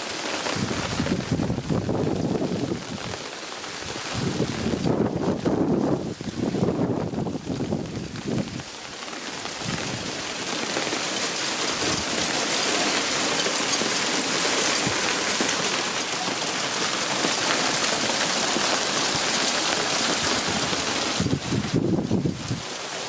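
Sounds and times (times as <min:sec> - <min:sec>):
heavy rain on hard surfaces: 0:00.0 - 0:23.0.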